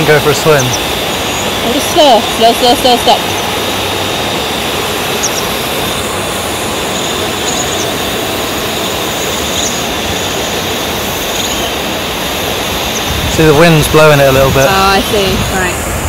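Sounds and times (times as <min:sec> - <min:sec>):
drone hovering: 0:00.0 - 0:16.0.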